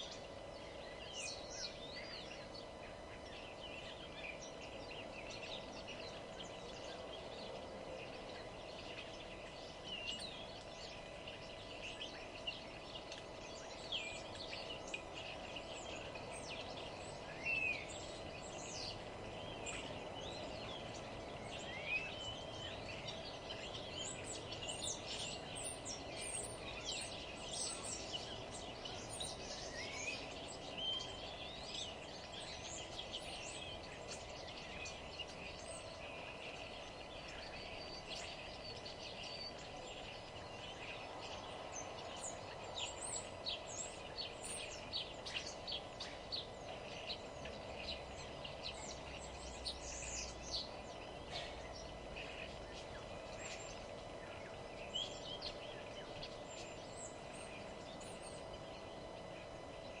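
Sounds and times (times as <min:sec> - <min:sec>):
songbirds chirping and singing: 0:00.0 - 1:00.0
steady low background noise: 0:00.0 - 1:00.0.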